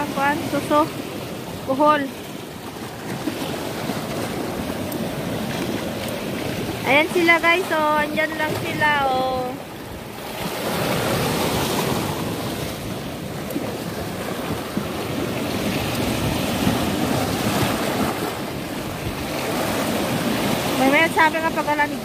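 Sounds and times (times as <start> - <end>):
sea waves on rocky shore: 0.0 - 22.0.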